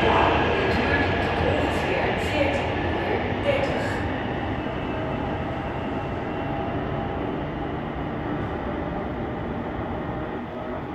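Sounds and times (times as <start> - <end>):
electric train pulling away: 0.0 - 10.9.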